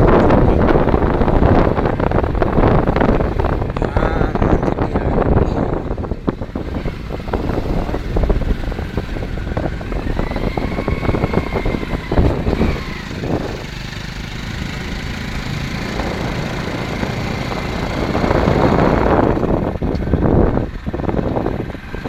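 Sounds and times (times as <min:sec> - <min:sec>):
road and wind noise: 0:00.0 - 0:22.0
vehicle engine running: 0:00.0 - 0:22.0.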